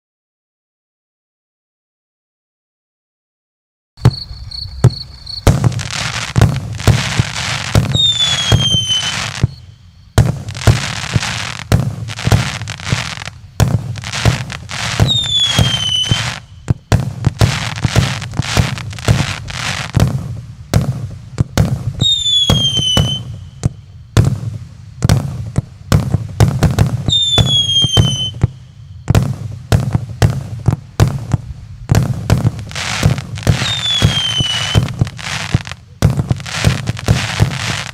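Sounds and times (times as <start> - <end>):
falling firework whistle: 4.0 - 20.9, 21.6 - 24.5, 26.4 - 31.4, 32.0 - 37.9
fireworks bangs and crackling: 4.0 - 37.9.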